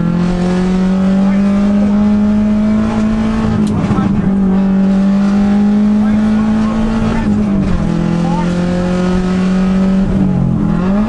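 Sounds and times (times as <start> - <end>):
racing car engine pulling hard: 0.0 - 11.0
road and wind noise: 0.0 - 11.0.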